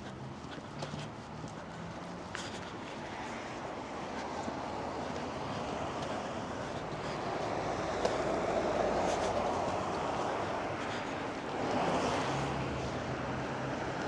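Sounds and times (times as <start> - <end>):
passing car tyre noise: 0.0 - 14.0.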